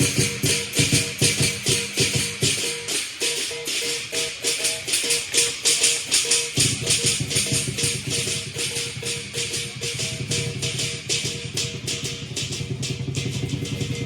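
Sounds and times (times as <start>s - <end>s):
cymbals clashing: 0.0s - 14.0s
drum beats: 0.0s - 14.0s
gong: 0.0s - 14.0s.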